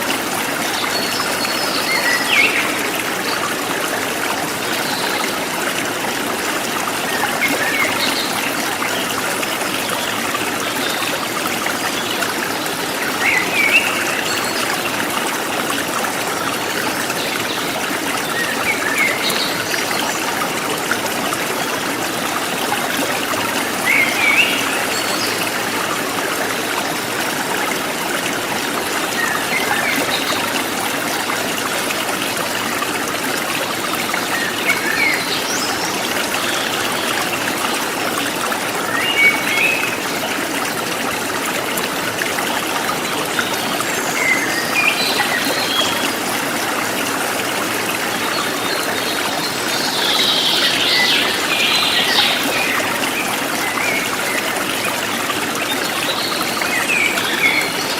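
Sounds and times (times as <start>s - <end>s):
stream flowing: 0.0s - 57.9s.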